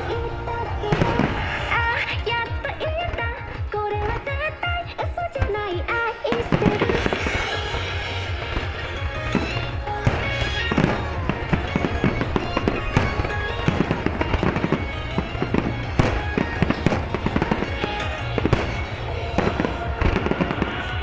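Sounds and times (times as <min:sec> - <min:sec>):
fireworks bangs and crackles: 0:00.0 - 0:21.0
pop music: 0:00.0 - 0:21.0.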